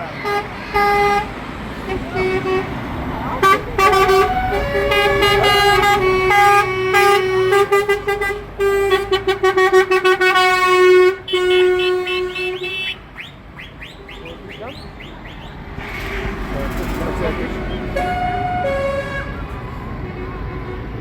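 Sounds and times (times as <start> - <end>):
tractor horn honking: 0.0 - 21.0.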